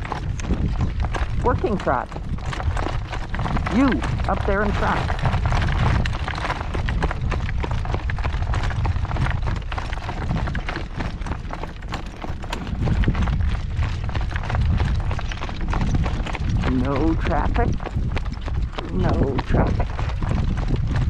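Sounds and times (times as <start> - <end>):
horse hooves clip-clopping on road: 0.0 - 21.0
low rumble: 0.0 - 21.0.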